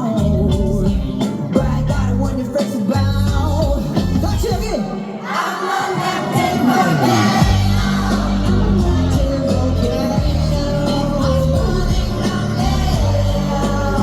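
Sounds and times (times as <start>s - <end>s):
live rock music: 0.0s - 5.1s, 6.0s - 14.0s
crowd singing and shouting: 0.0s - 14.0s.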